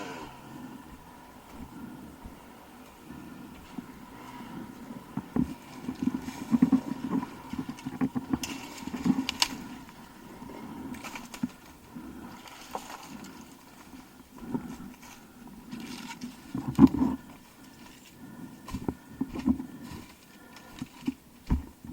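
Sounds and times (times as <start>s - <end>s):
dirt bike engine: 0.0s - 21.9s.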